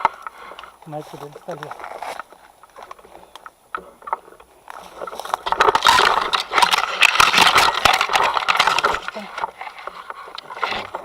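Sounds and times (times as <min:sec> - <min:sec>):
rustling and scraping: 0:00.0 - 0:11.0.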